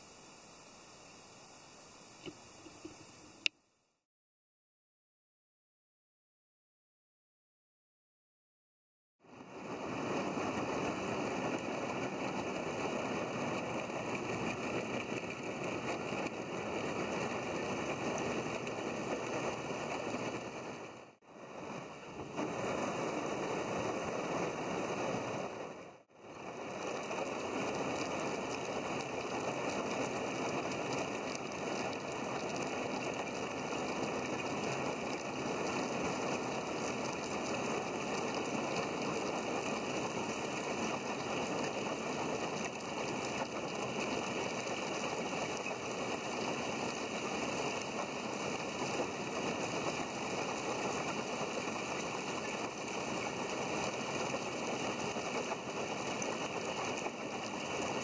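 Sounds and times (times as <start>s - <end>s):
outboard motor running: 0.0s - 3.5s, 9.3s - 58.0s
water rushing: 0.0s - 3.5s, 9.4s - 58.0s.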